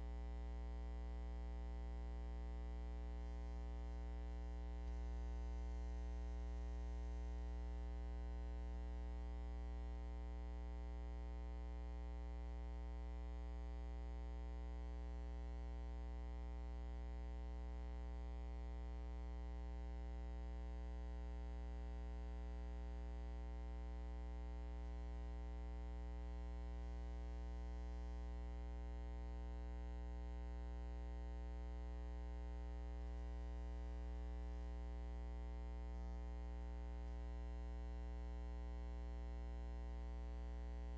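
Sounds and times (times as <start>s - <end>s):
low electrical hum with buzz: 0.0s - 40.9s.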